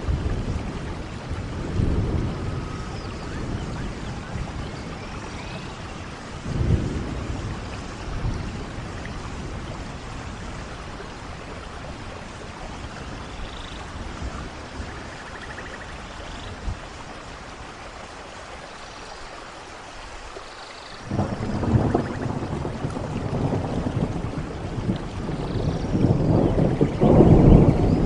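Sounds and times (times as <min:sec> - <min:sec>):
rolling thunder: 0:00.0 - 0:15.9, 0:21.0 - 0:28.0
steady rain: 0:00.0 - 0:28.0.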